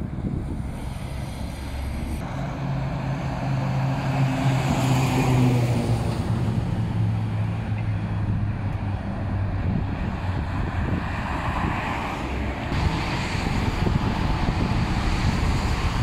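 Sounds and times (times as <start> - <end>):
steady traffic noise: 0.0 - 16.0
truck engine passing: 0.0 - 16.0.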